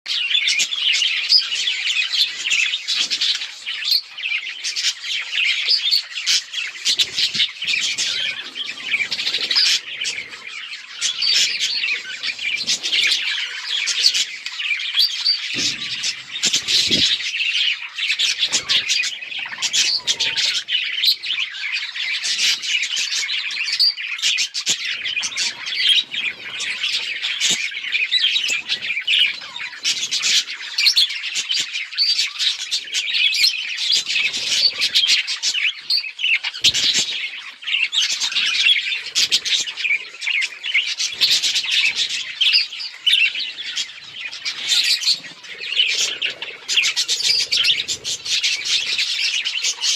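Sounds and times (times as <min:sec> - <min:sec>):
bird squawk: 0:00.1 - 0:49.9
budgerigars chirping and chattering: 0:00.1 - 0:49.9.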